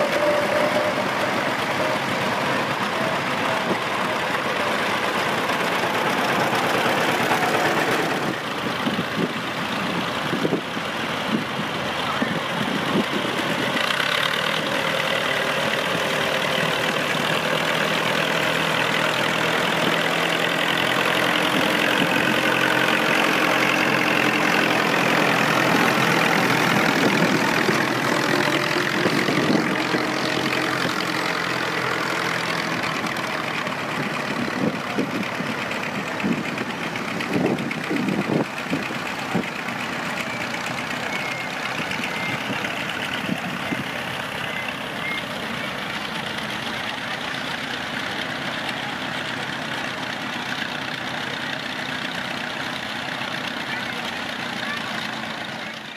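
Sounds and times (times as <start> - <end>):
tractor engine knocking: 0.0 - 55.9
tractor engines droning: 0.0 - 55.9.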